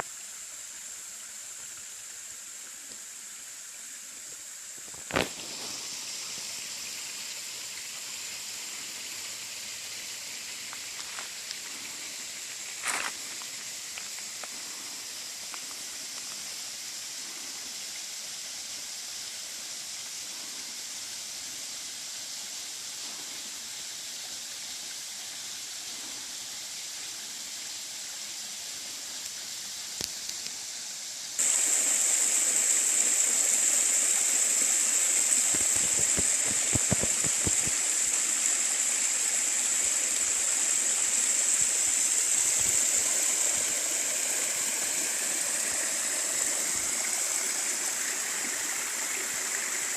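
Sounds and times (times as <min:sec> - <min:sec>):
stream rushing over rocks: 0:00.0 - 0:49.9.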